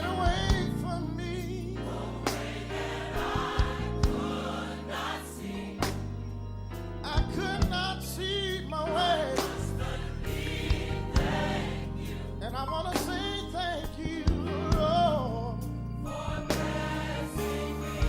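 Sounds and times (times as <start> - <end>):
choir singing gospel with band: 0.0 - 18.0.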